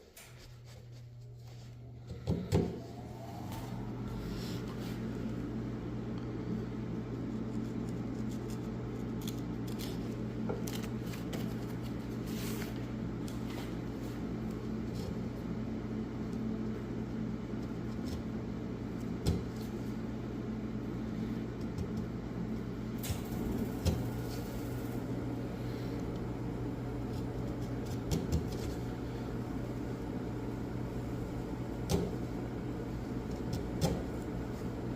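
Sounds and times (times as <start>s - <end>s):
low background hum: 0.0s - 34.9s.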